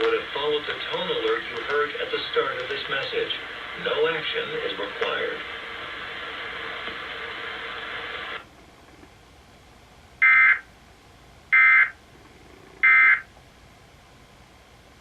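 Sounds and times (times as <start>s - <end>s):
steady background sound: 0.0s - 13.4s.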